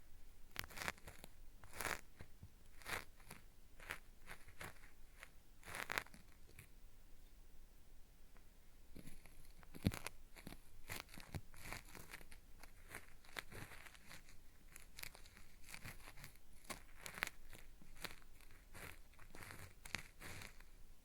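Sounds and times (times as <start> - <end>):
cotton swab scraping microphone: 0.5 - 6.7, 9.0 - 20.8.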